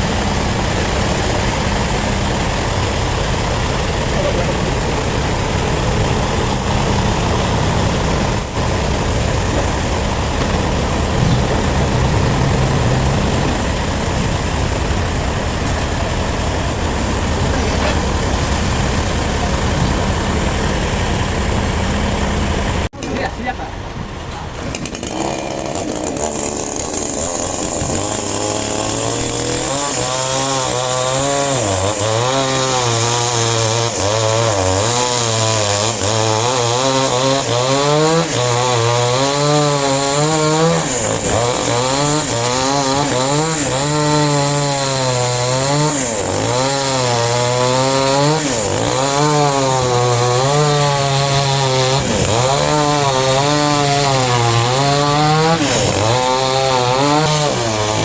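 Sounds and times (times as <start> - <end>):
power saw cutting log: 0.0 - 58.0.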